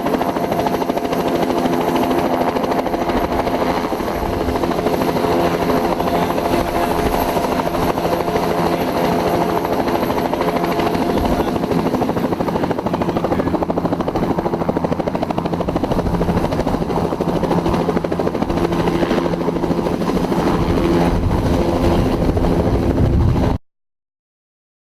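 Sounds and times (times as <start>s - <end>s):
helicopter rotor pulse: 0.0s - 23.6s
helicopter turbine engine tones: 0.0s - 23.6s.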